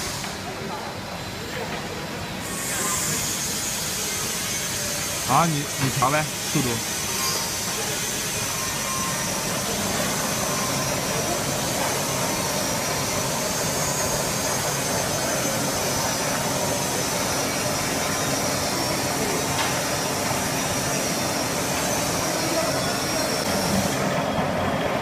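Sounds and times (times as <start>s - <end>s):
mixer running with high whine: 2.4s - 25.0s.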